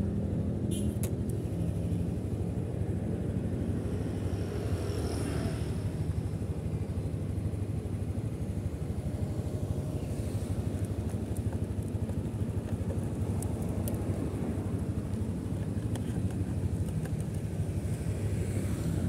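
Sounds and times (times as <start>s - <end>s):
motorcycle engine running: 0.2s - 19.0s.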